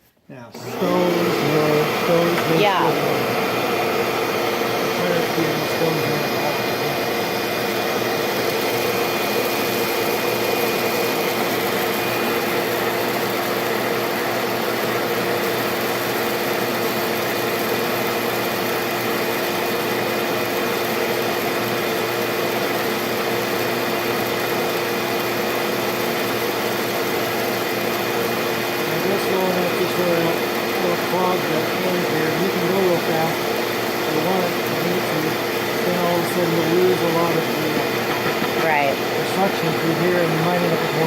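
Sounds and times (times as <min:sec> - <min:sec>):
suction blower humming: 0:00.0 - 0:41.0.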